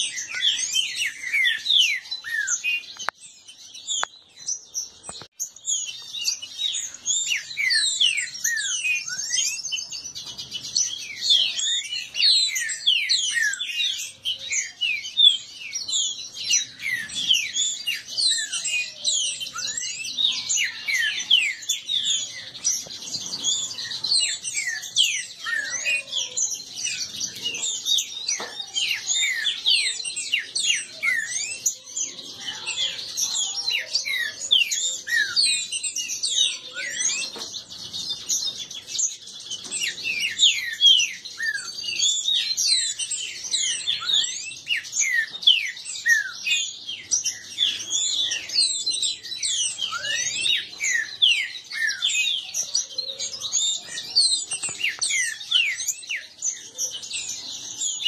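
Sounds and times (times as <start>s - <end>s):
birds whistling song: 0.0s - 58.0s.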